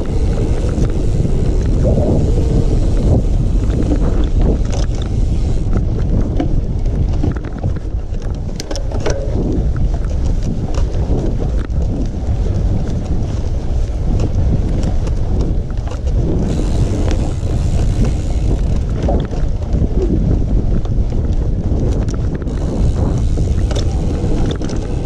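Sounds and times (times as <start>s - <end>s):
bike rattling over rough ground: 0.0s - 25.0s
wind buffeting microphone: 0.0s - 25.0s.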